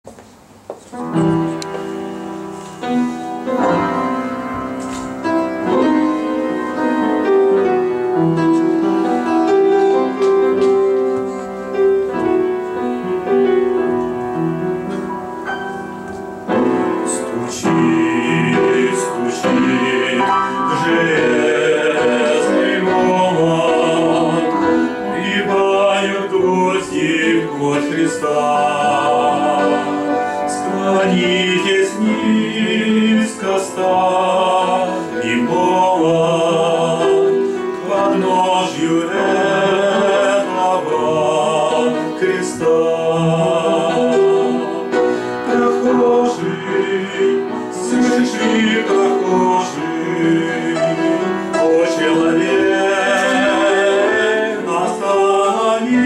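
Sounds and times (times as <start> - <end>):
piano hymn introduction: 0.0 - 56.0
fuller bright accompaniment: 0.1 - 56.0.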